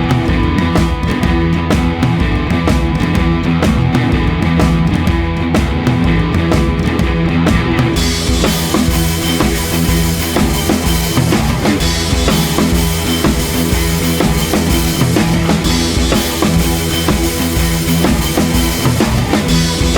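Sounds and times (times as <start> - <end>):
rock music with drum beat: 0.0 - 19.9.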